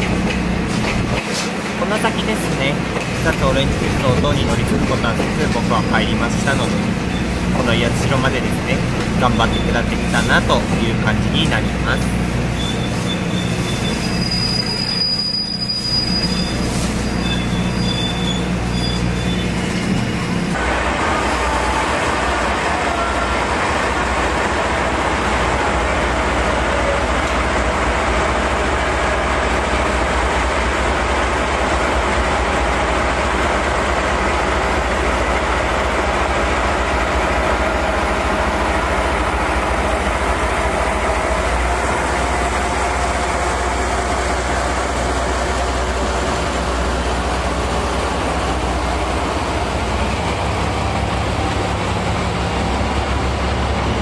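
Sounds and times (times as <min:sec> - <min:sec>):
diesel locomotive running: 0:00.0 - 0:54.0.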